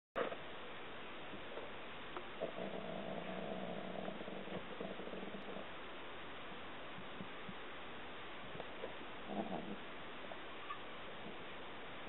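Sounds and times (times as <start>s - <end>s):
steady hiss: 0.2s - 12.0s.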